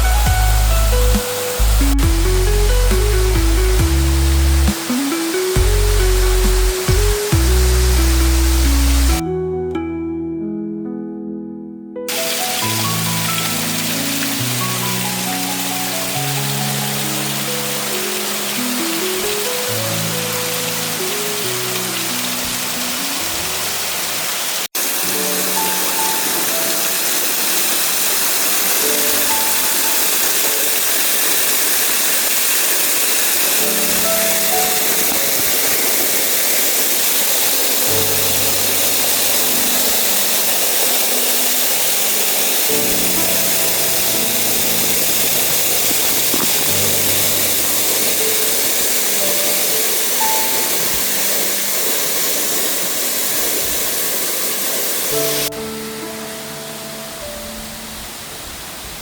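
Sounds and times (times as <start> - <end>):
waterfall rushing: 0.0 - 9.2, 12.1 - 59.0
soft background music: 0.0 - 24.0, 24.8 - 27.9, 28.6 - 32.6, 33.4 - 53.6, 55.2 - 58.3.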